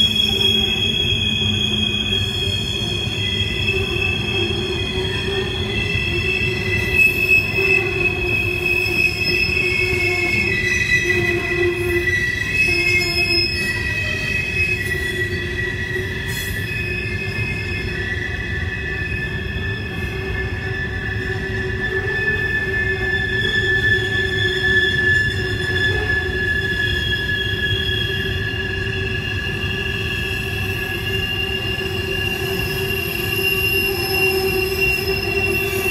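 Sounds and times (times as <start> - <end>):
rumble of wheels on track: 0.0 - 35.9
wheel flanges squealing: 0.0 - 35.9.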